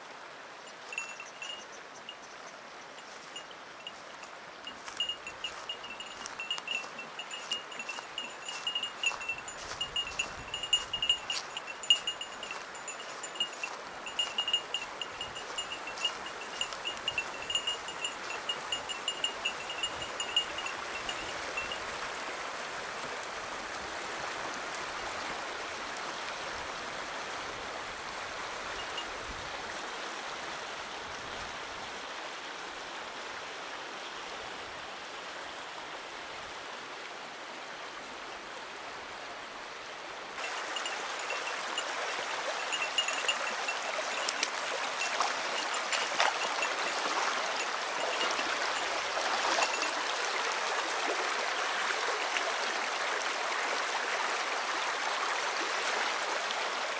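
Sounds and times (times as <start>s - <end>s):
stream running over stones: 0.0s - 56.9s.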